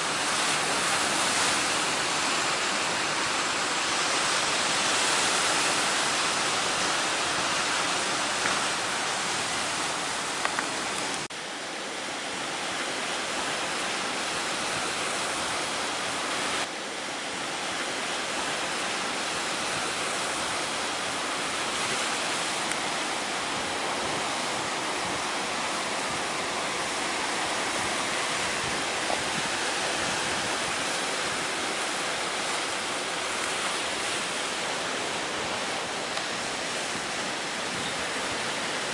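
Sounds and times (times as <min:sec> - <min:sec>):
high surf rushing: 0:00.0 - 0:38.9
strong wind: 0:00.0 - 0:38.9.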